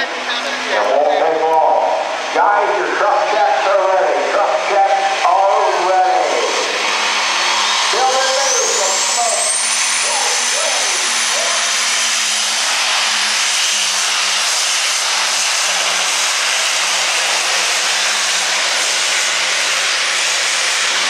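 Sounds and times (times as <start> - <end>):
diesel engine roaring: 0.0 - 21.0
turbo whine: 0.0 - 21.0.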